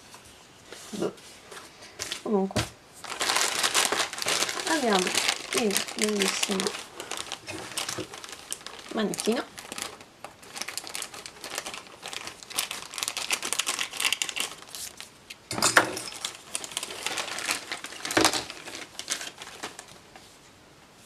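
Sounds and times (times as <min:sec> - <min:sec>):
plastic packaging crinkling: 0:02.1 - 0:20.3.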